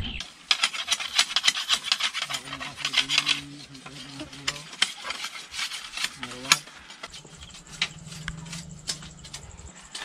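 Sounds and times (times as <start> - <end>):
blade scraping bamboo: 0.2 - 10.0.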